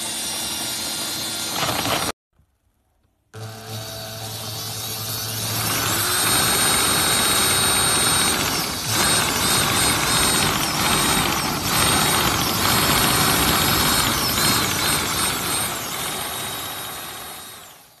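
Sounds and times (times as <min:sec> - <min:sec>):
drill motor whine: 0:00.0 - 0:02.1, 0:03.4 - 0:18.0.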